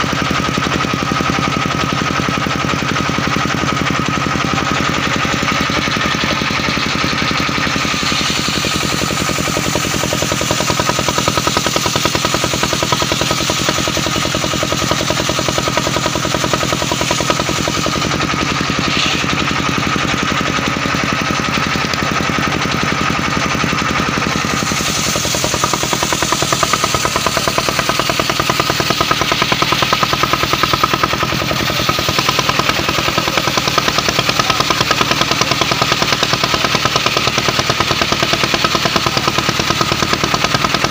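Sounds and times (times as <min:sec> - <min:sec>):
high saw whine: 0:00.0 - 0:40.9
sawmill engine chugging: 0:00.0 - 0:40.9.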